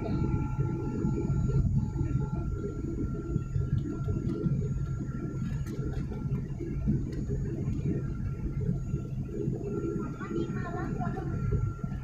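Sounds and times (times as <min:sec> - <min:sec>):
engine and airflow rumble: 0:00.0 - 0:12.0
faint high whine: 0:00.0 - 0:12.0.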